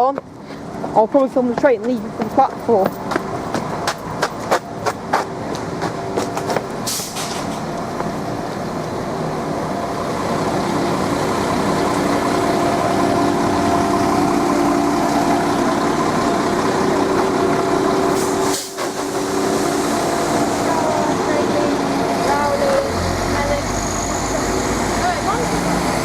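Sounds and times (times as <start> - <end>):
diesel train engines humming: 0.0 - 26.0.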